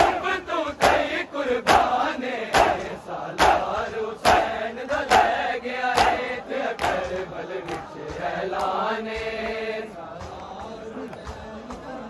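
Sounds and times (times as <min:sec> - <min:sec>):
crowd chanting: 0:00.0 - 0:12.0
men slapping chests in unison: 0:00.0 - 0:12.0.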